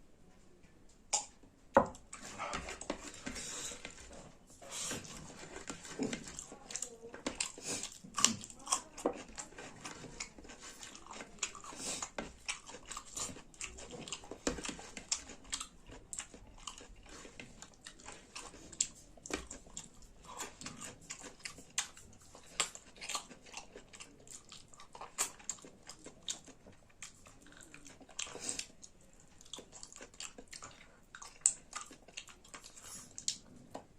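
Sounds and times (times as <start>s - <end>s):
close chewing and mouth noises: 0.6s - 33.9s.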